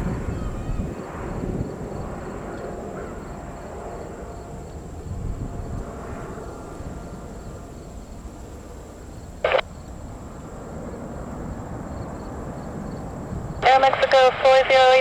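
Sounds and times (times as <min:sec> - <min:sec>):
jet airliner engines rumbling: 0:00.0 - 0:15.0.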